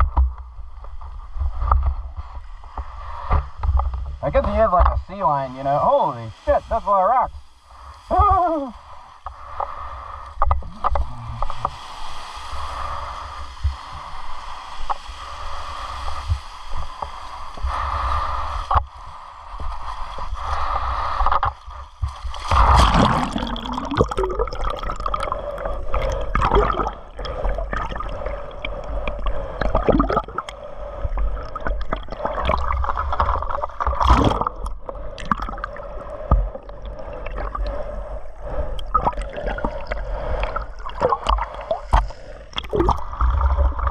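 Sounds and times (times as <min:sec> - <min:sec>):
water sloshing and gurgling: 0:00.0 - 0:43.9.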